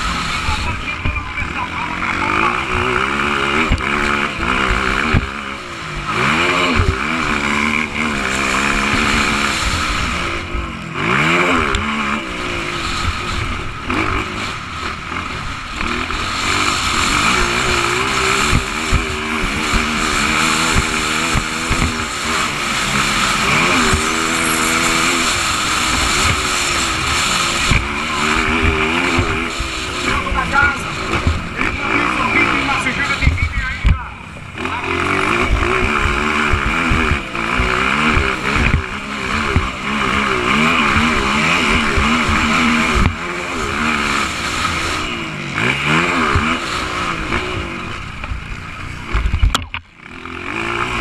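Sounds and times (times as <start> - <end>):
constant mechanical din: 0.0 - 51.0
motocross bike engines racing: 0.0 - 51.0.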